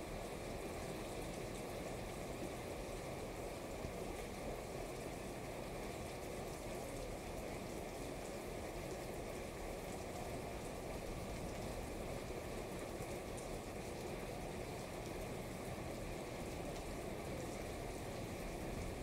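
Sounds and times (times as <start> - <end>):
rain on wet street: 0.0 - 19.0.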